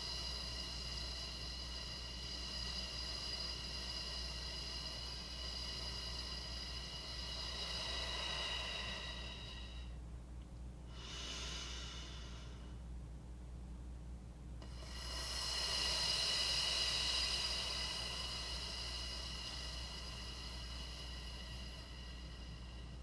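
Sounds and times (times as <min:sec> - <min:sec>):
person breathing audibly: 0:00.0 - 0:10.0, 0:10.9 - 0:12.9, 0:14.6 - 0:23.0.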